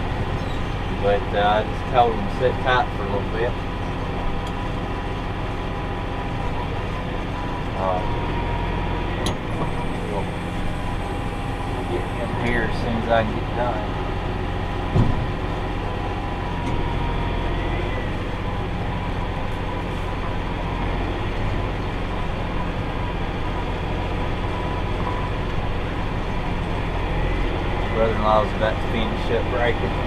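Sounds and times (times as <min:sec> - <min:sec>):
hay baler working: 0:00.0 - 0:30.0
tractor running: 0:00.0 - 0:30.0.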